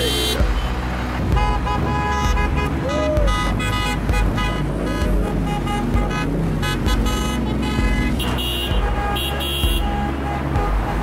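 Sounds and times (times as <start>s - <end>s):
car horns honking: 0.0s - 11.0s
music with steady beat: 0.0s - 11.0s.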